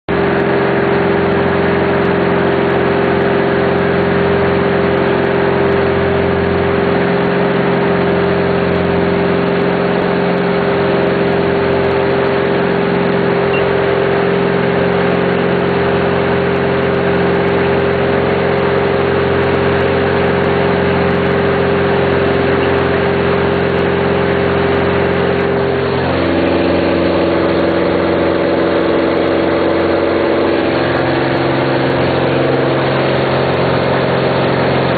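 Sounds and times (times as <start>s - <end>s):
aircraft engine and propeller droning: 0.1s - 34.9s.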